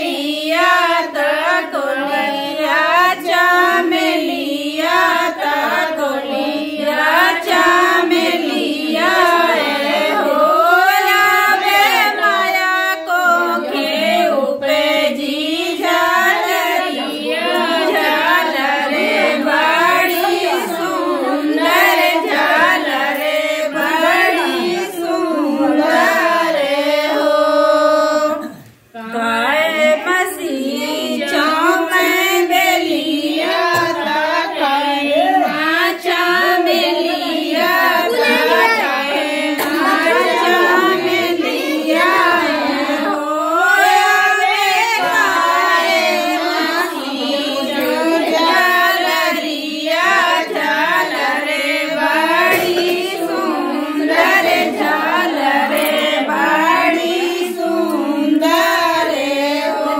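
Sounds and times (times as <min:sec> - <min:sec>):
women singing folk song: 0:00.0 - 0:59.9.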